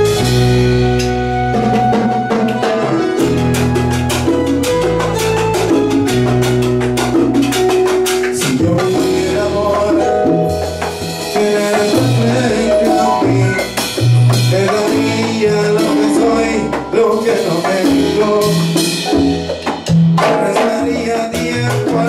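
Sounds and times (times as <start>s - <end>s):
live band playing latin dance music: 0.0s - 22.0s.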